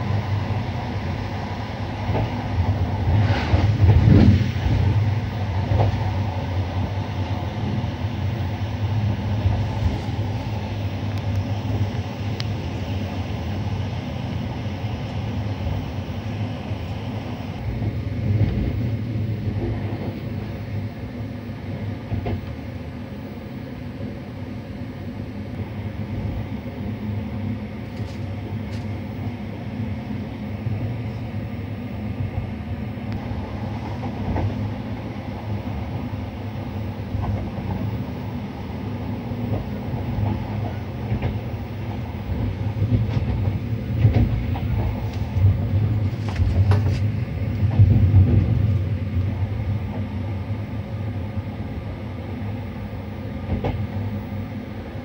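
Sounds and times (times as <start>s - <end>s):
electric locomotive hum: 0.0s - 55.0s
wheels rumbling on rails: 0.0s - 55.0s.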